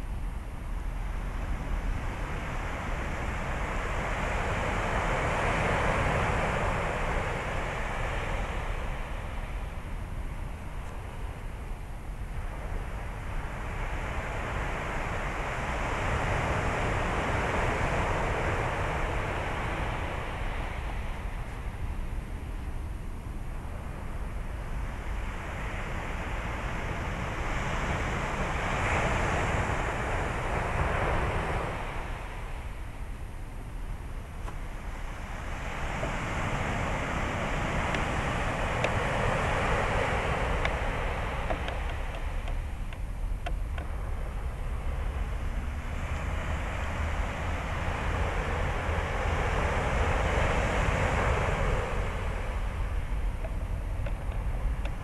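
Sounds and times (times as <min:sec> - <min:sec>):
waves washing onto beach: 0:00.0 - 0:55.0
wind rumble on microphone: 0:00.0 - 0:55.0.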